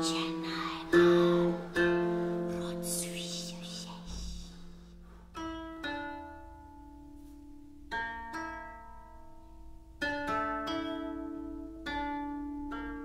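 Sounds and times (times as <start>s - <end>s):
koto plucked slowly: 0.0s - 13.0s.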